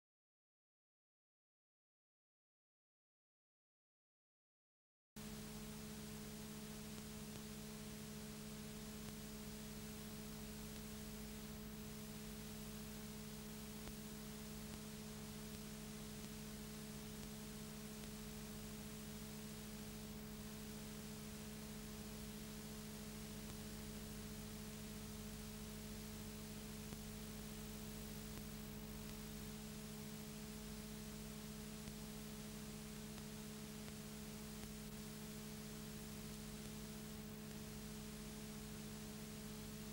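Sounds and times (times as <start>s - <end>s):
electrical mains hum: 5.2s - 39.9s.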